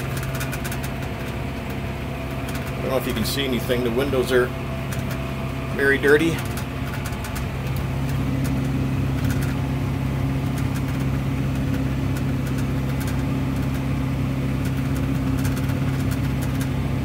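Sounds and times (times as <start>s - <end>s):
driver talking: 0.0s - 13.8s
cab monitor rattling clicks: 0.0s - 16.8s
tractor engine running under load: 0.0s - 17.0s.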